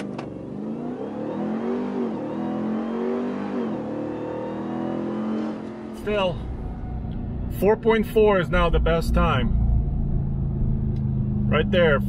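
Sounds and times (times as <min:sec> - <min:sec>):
truck engine at full throttle: 0:00.0 - 0:12.0.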